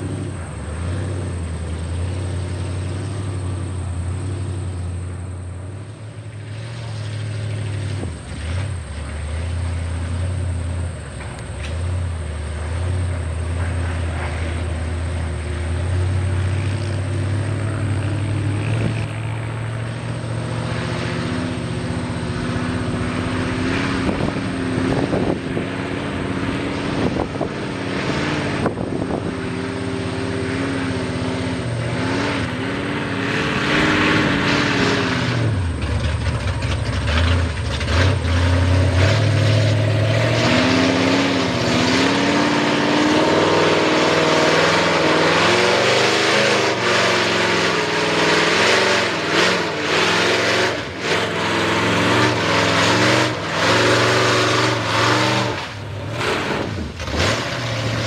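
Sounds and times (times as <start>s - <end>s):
truck churning through mud: 0.0s - 58.0s
truck engine revving: 0.0s - 58.0s.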